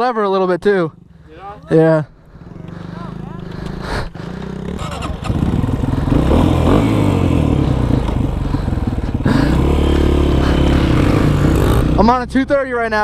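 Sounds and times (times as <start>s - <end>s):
dirt bike engine revving: 0.7s - 13.0s.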